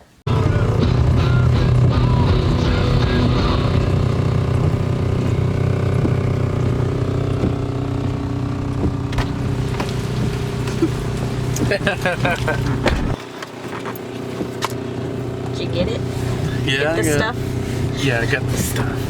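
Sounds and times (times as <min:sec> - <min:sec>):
car engine running: 0:00.3 - 0:19.0.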